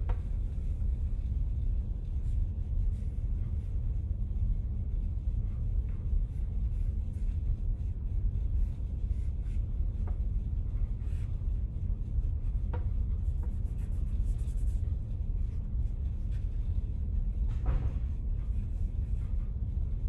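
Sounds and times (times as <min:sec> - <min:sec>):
low rumble: 0:00.0 - 0:20.0
charcoal scratching on paper: 0:00.1 - 0:20.0.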